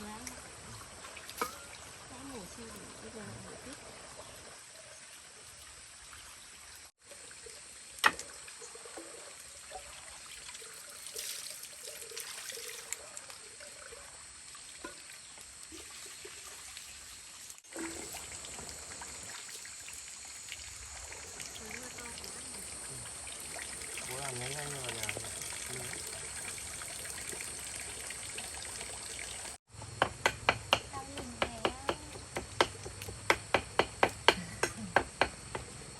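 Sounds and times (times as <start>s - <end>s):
water trickling and pouring: 0.0s - 29.6s.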